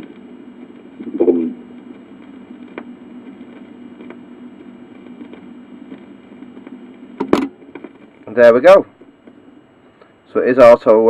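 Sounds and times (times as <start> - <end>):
amplifier hum: 0.0 - 11.0.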